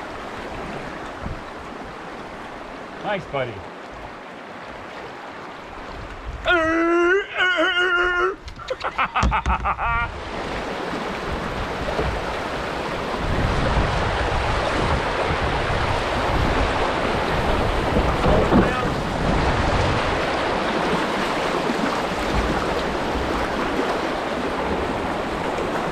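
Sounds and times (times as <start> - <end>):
wind on microphone: 0.0 - 1.6, 5.7 - 6.9, 7.9 - 25.9
rushing river water: 0.0 - 25.9.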